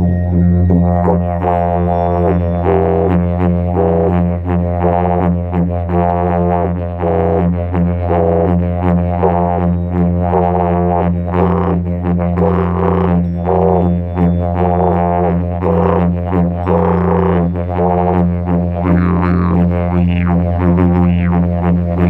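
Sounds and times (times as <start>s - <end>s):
low drone with pulsing overtones: 0.0s - 22.0s.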